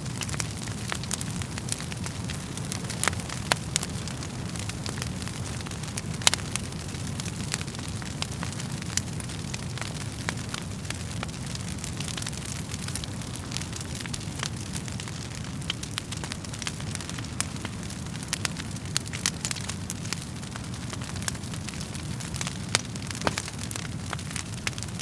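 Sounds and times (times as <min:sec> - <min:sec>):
burning wood crackling and popping: 0:00.0 - 0:25.0
fire flames rumbling: 0:00.0 - 0:25.0.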